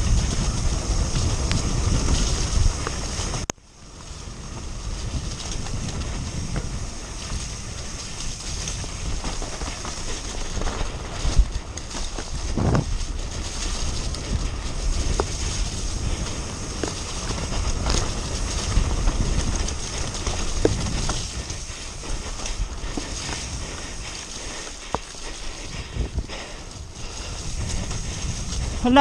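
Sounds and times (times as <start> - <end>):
bike rattling: 0.0 - 29.0
bike tyres rumbling over dirt: 0.0 - 29.0.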